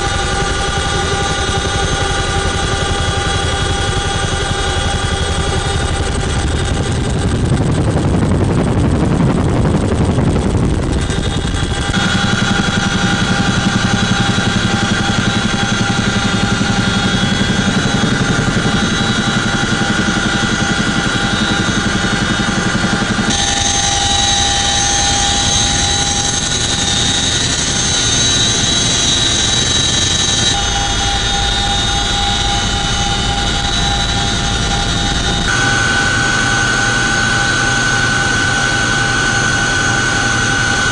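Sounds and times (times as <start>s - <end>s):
helicopter engines running: 0.0s - 40.9s
helicopter rotor beat: 0.0s - 40.9s
high whining drive tones: 0.0s - 40.9s.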